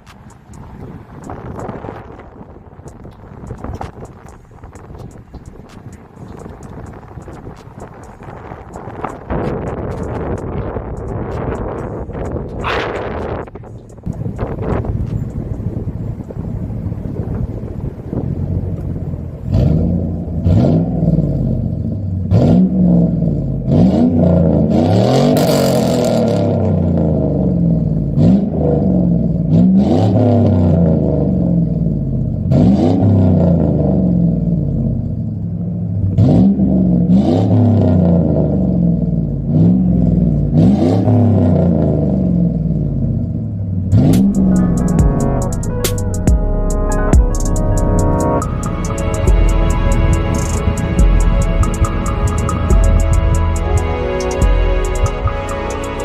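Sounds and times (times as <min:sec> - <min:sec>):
pickup engine revving: 0:00.0 - 0:56.0.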